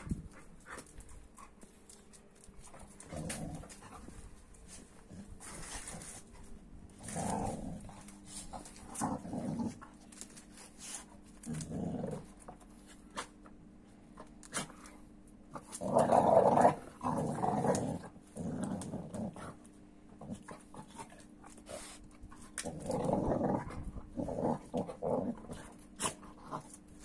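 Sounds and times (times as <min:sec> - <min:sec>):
dog play-growling: 0:00.0 - 0:13.3, 0:14.2 - 0:27.0.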